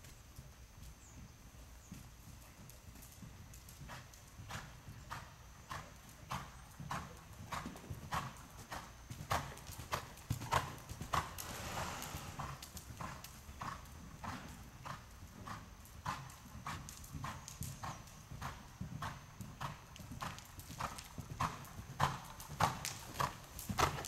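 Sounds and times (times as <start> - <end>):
horse hoofbeats on sand: 0.4 - 24.0.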